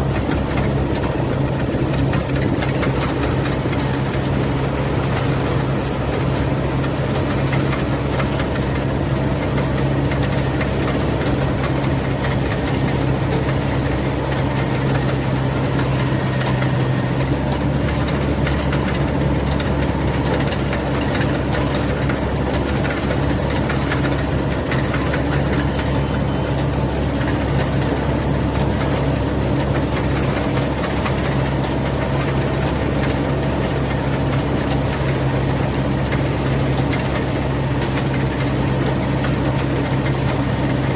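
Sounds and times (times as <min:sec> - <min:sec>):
harvester engine running: 0:00.0 - 0:40.9.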